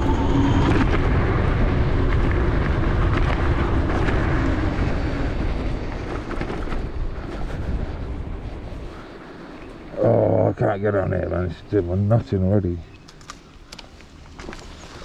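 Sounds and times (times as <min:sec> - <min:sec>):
wind buffeting microphone: 0:00.0 - 0:12.5
tyres rumbling over dirt path: 0:00.0 - 0:15.0.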